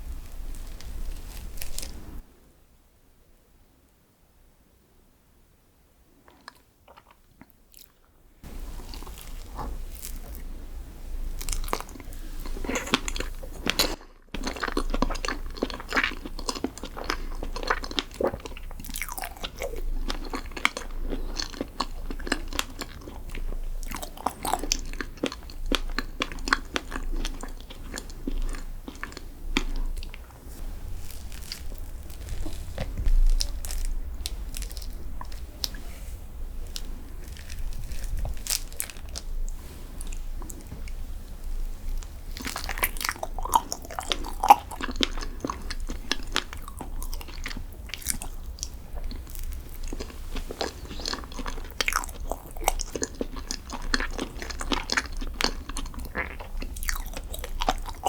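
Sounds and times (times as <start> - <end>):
chewing and crunching dessert: 0.0 - 2.2, 6.2 - 58.0.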